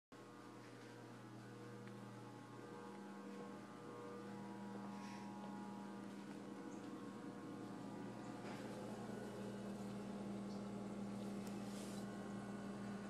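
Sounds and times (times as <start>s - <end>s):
faint electrical hum: 0.2s - 13.0s.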